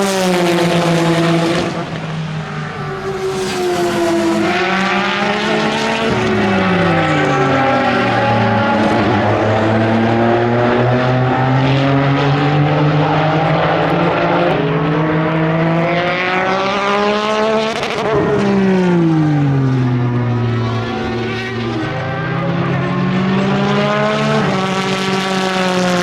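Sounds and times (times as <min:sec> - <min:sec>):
race car engine passing by: 0:00.0 - 0:26.0.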